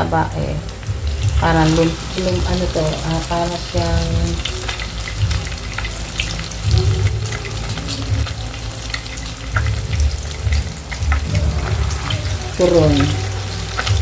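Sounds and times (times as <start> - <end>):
hot oil sizzling: 0.0 - 14.0
low rumble: 0.0 - 14.0.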